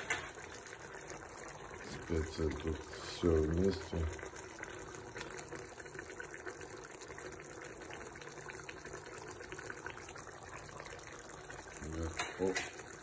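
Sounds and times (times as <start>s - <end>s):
pot of food bubbling: 0.0s - 13.0s.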